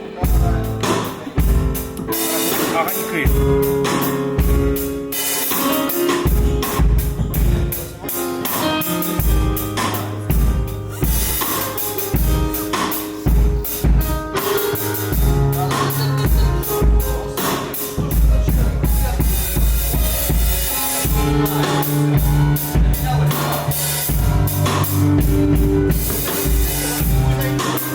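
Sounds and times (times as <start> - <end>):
band playing instrumental: 0.0 - 27.9
drums steady beat: 0.0 - 27.9.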